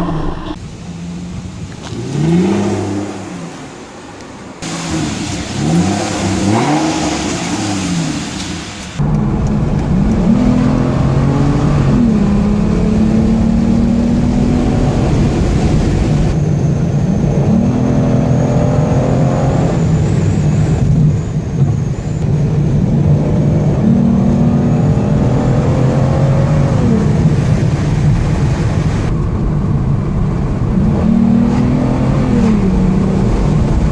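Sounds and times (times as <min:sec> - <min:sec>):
car engine revving: 0:04.6 - 0:21.2, 0:22.0 - 0:33.9.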